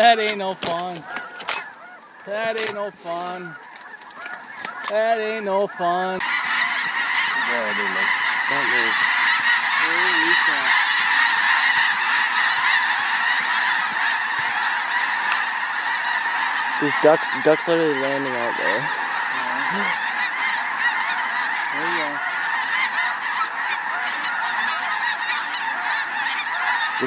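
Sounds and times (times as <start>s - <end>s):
flock of geese honking: 0.0s - 27.0s.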